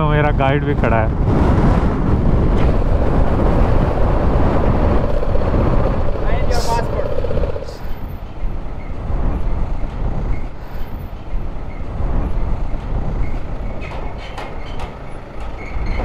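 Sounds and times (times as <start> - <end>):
motorcycle engine low rumble: 0.0 - 16.0.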